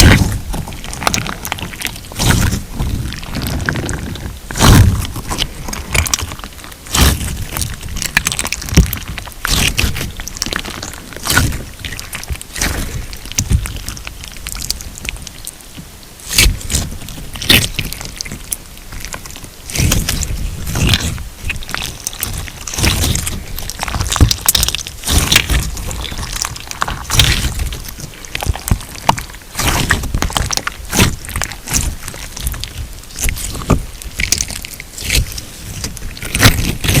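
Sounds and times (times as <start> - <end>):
hands squishing crunchy slime: 0.0 - 37.0
slime crackles and pops: 0.0 - 37.0.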